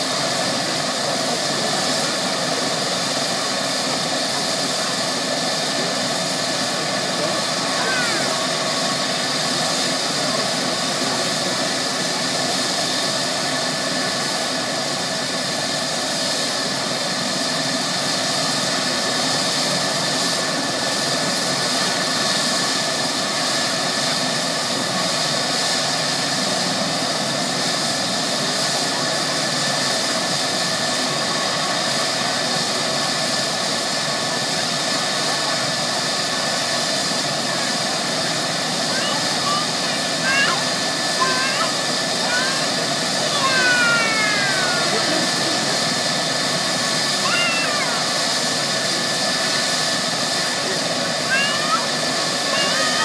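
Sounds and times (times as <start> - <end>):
helicopter turbines whining: 0.0 - 53.0.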